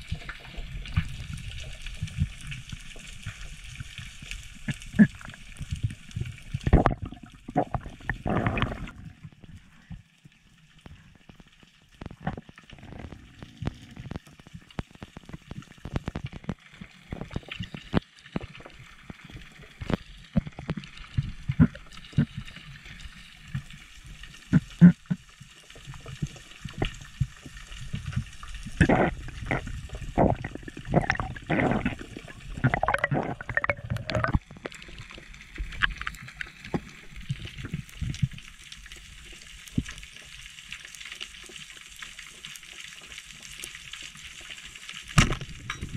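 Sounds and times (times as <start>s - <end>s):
water gurgling and sloshing: 0.0s - 45.9s.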